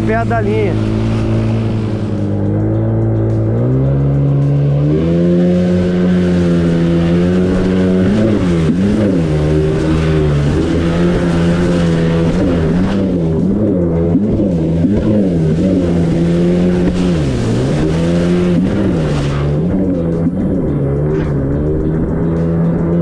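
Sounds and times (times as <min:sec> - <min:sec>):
jet ski engine revving: 0:00.0 - 0:23.0.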